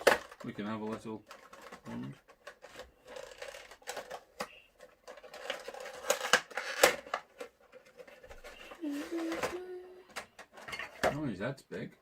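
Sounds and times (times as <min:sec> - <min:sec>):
packaging rustling: 0:00.0 - 0:11.1.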